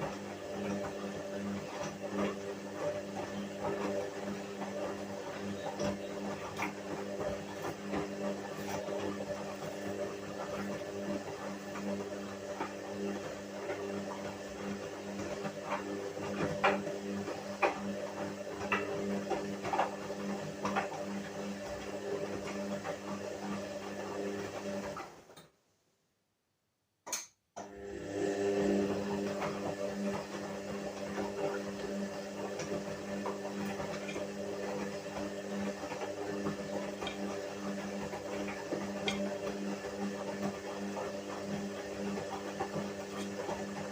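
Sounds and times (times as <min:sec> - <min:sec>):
washing machine motor hum: 0:00.0 - 0:25.4, 0:27.6 - 0:43.9.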